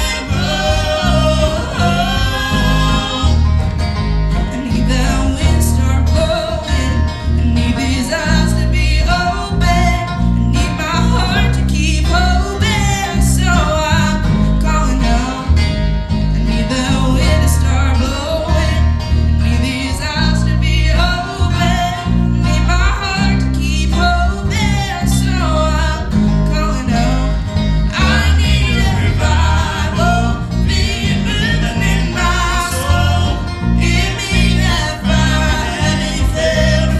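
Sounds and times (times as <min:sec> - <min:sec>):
acoustic guitar: 0:00.0 - 0:36.9
deep bass notes: 0:00.0 - 0:36.9
person singing: 0:00.0 - 0:36.9.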